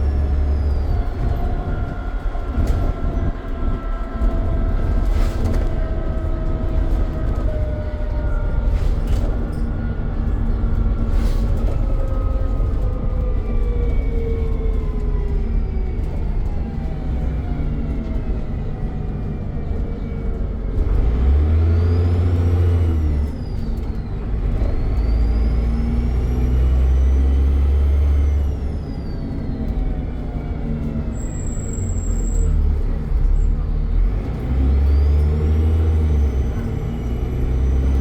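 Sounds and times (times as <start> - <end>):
bus engine: 0.0 - 38.0.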